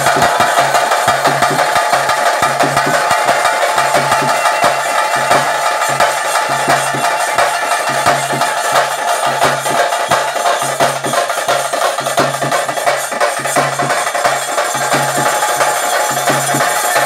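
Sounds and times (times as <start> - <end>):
hand drums fast beat: 0.0 - 17.0.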